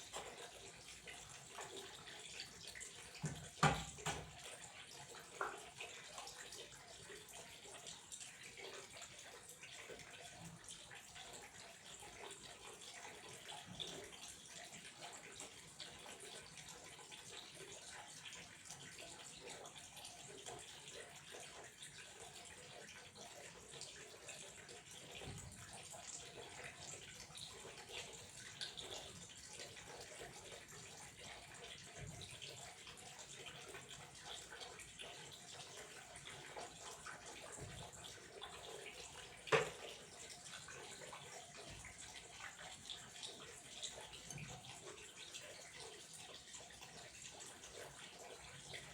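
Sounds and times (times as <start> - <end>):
water flowing: 0.0 - 48.9.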